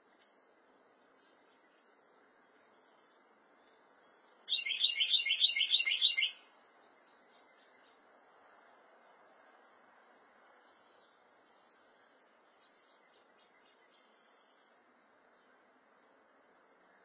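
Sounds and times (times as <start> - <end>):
insects chirping: 0.0 - 17.0
wren singing: 0.2 - 15.6.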